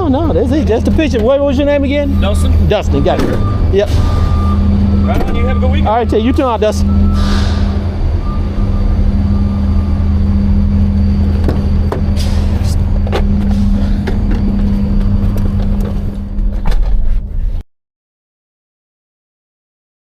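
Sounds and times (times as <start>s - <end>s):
vehicle engine humming: 0.0s - 17.6s.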